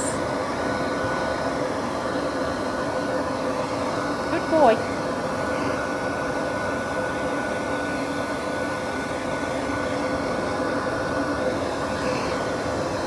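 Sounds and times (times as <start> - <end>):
dog grooming dryer blowing air: 0.0 - 13.0.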